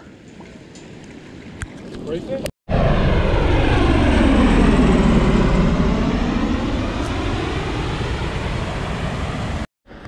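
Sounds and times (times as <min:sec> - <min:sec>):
aircraft rotor and engine flying past: 0:00.8 - 0:10.0.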